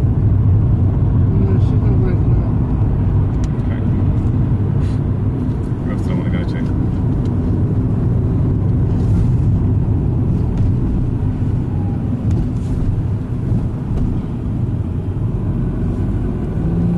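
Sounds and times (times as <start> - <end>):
car engine hum: 0.0 - 16.9
road noise inside car: 0.0 - 16.9.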